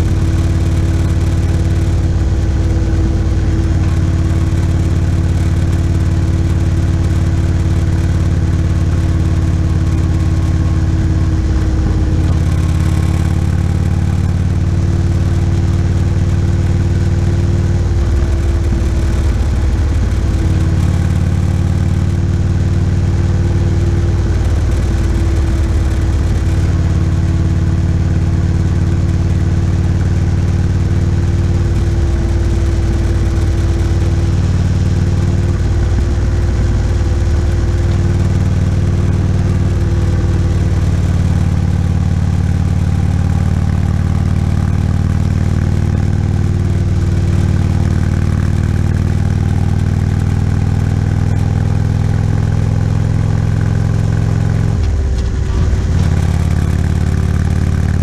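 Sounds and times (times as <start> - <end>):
motorcycle engine rumble: 0.0 - 58.0.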